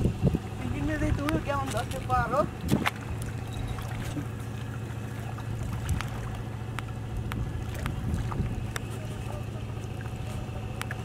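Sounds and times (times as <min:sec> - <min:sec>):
distant motorboat engine drone: 0:00.0 - 0:11.0.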